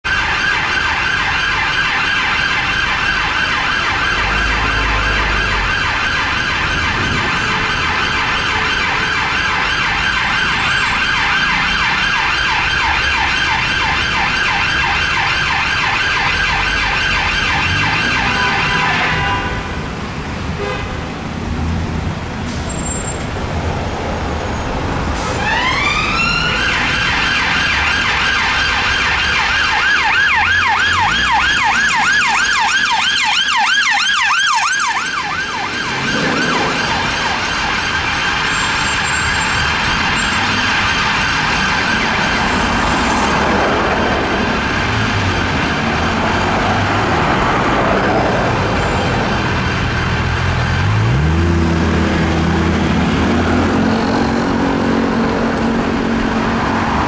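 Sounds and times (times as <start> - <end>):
police siren yelping: 0.0 - 19.2, 25.4 - 56.2
low traffic rumble: 0.0 - 57.0.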